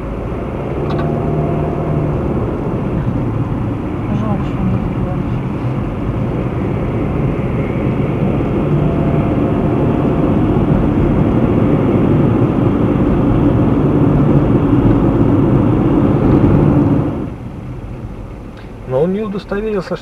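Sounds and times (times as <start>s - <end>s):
car cabin road rumble: 0.0s - 20.0s.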